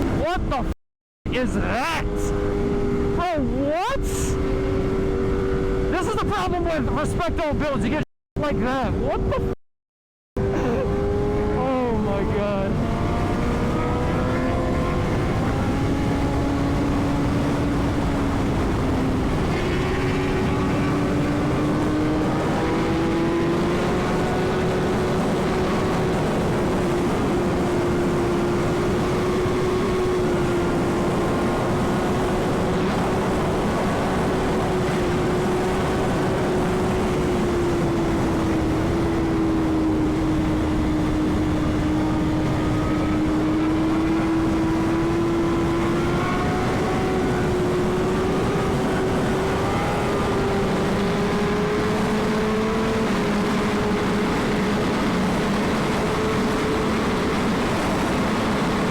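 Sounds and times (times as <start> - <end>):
heavy wind rush: 1.3 - 9.6, 10.4 - 58.9
motorcycle engine accelerating: 1.6 - 7.7, 10.4 - 58.9.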